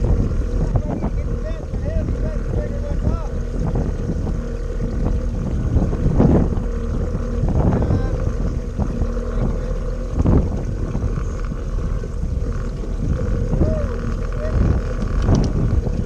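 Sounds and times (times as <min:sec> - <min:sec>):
faint steady hum: 0:00.0 - 0:16.0
wind buffeting microphone: 0:00.0 - 0:16.0.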